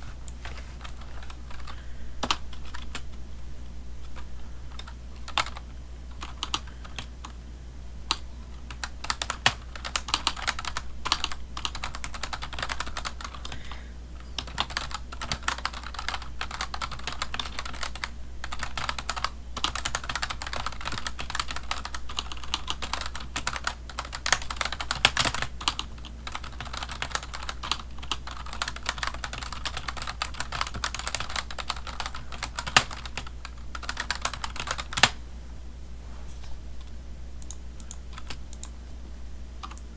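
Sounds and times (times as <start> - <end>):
steady low hum: 0.0 - 39.9
computer keyboard typing: 0.3 - 3.2, 4.0 - 7.4, 8.1 - 35.2, 36.8 - 38.8, 39.6 - 39.9.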